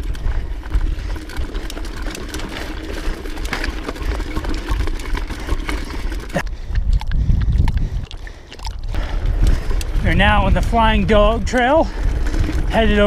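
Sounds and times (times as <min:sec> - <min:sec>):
wind rumble on microphone: 0:00.0 - 0:03.2, 0:04.3 - 0:13.0
bike drivetrain clicks and rattles: 0:00.0 - 0:13.0.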